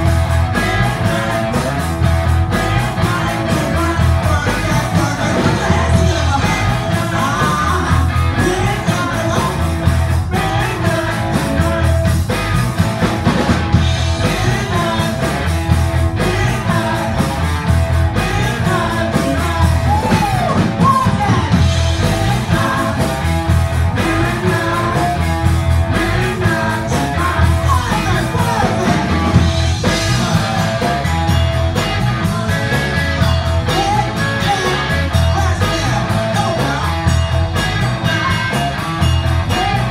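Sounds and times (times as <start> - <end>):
person singing: 0.0 - 1.8, 2.5 - 12.1, 14.0 - 31.1, 31.7 - 38.8, 39.4 - 39.9
guitar: 0.0 - 39.9
pulsing bass: 0.0 - 39.9.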